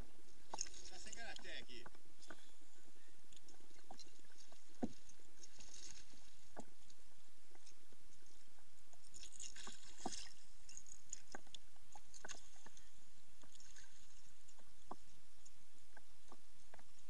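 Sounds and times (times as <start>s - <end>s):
small waves lapping against hull: 0.0s - 17.0s.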